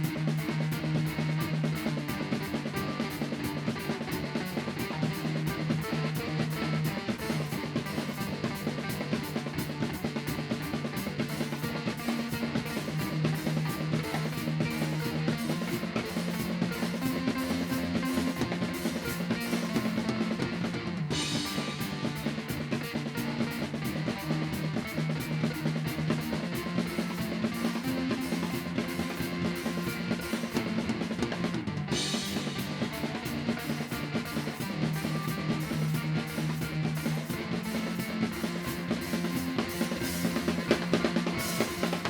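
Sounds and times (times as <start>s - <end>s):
bass and guitar notes: 0.0s - 42.0s
drum kit beat on cymbals: 0.0s - 42.0s.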